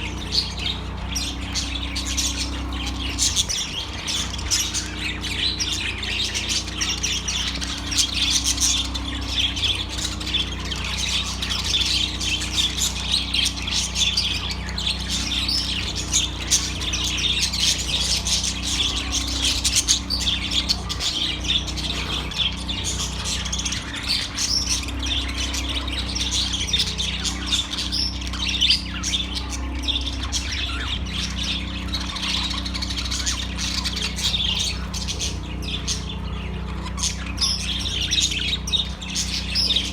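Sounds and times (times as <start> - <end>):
budgerigars chattering and chirping: 0.0 - 39.9
low steady hum: 0.0 - 39.9.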